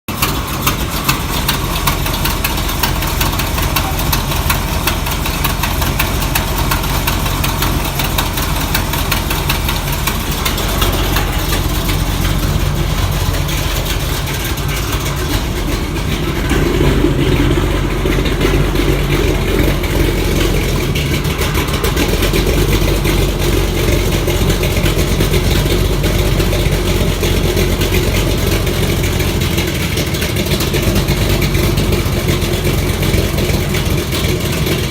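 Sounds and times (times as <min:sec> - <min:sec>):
car engine idling: 0:00.0 - 0:34.9
exhaust leak puffing tick: 0:00.1 - 0:34.9.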